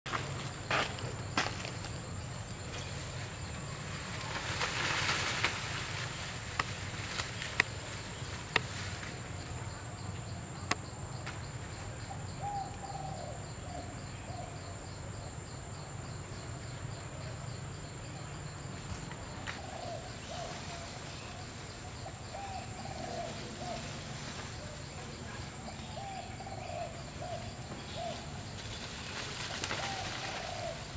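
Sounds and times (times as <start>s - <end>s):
insect drone: 0.1s - 30.9s.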